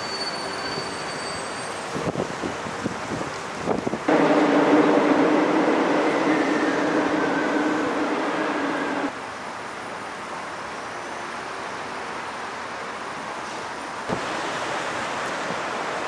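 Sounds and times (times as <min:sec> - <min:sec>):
subway train rumbling overhead: 0:00.0 - 0:16.0.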